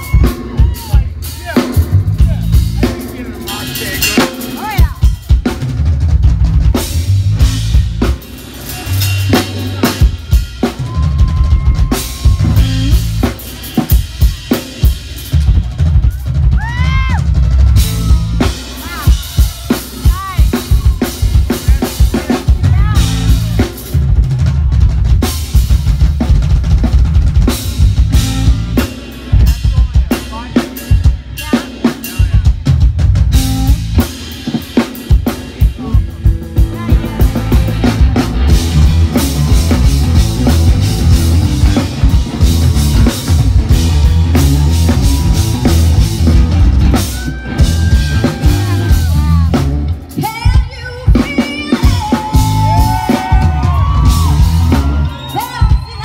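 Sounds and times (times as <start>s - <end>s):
guitar and bass notes: 0.0s - 56.0s
rock drum solo: 0.0s - 56.0s.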